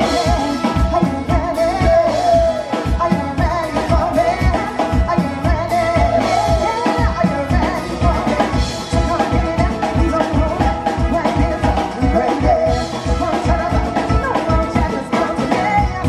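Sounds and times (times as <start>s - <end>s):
drum kit beat: 0.0s - 16.0s
electric guitar: 0.0s - 16.0s
woman singing: 0.0s - 16.0s.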